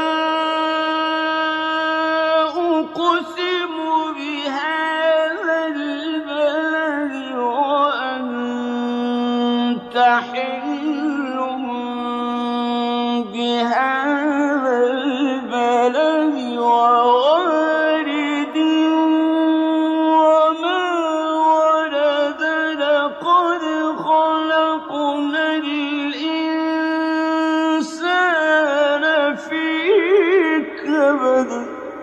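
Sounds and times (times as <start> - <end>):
man reciting melodically: 0.0 - 32.0.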